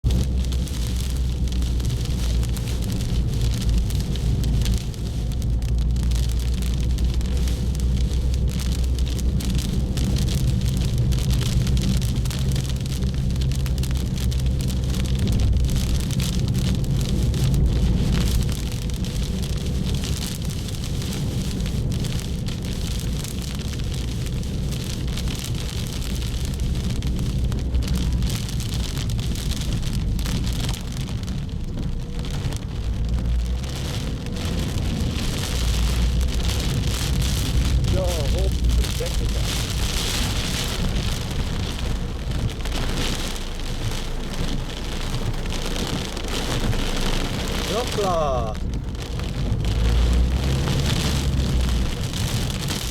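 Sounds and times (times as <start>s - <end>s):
heavy rain on a car: 0.0s - 52.9s
low steady car rumble: 0.0s - 52.9s.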